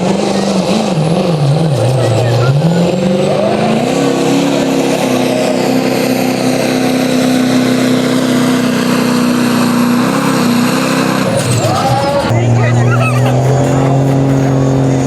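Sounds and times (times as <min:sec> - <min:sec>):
diesel truck engine at high revs: 0:00.0 - 0:15.0.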